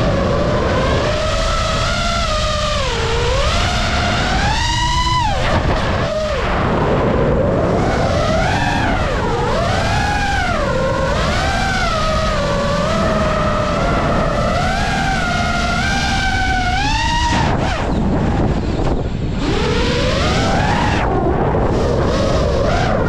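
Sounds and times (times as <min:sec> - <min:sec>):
drone motors whining: 0:00.0 - 0:23.0
wind on microphone: 0:00.0 - 0:23.0.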